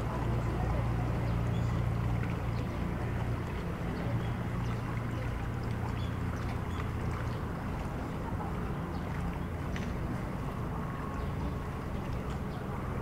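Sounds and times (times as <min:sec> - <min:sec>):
boat motor hum: 0:00.0 - 0:13.0
flowing water wash: 0:00.0 - 0:13.0.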